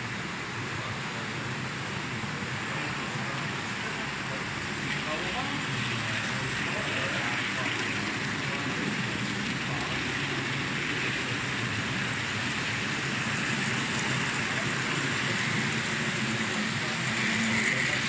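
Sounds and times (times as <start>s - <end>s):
model train wheels rattling on rails: 2.6s - 18.0s.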